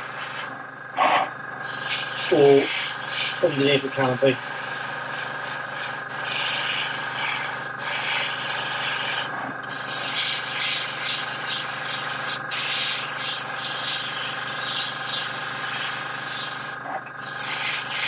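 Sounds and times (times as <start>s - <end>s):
airbrush spraying hiss: 1.6s - 18.0s.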